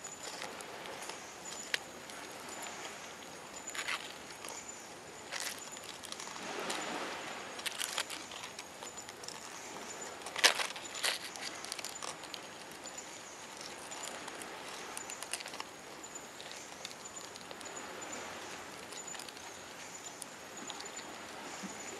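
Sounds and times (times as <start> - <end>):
crabs rustling dry leaves: 0.0 - 21.9.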